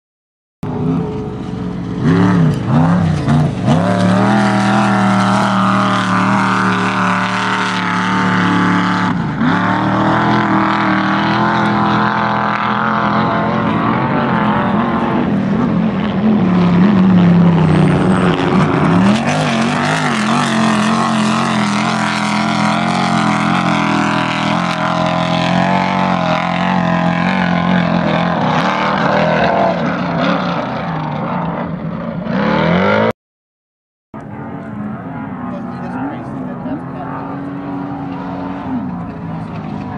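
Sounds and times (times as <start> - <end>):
race vehicle engines revving: 0.6 - 33.1, 34.2 - 39.9.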